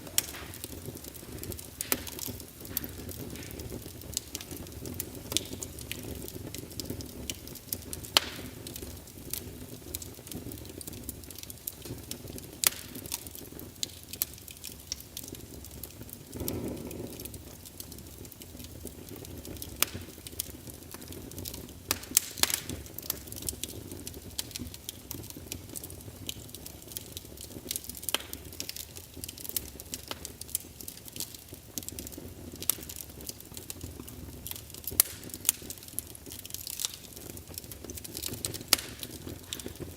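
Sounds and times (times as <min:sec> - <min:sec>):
soft whoosh of flame: 0:00.0 - 0:39.9
wood fire crackling: 0:00.0 - 0:39.9.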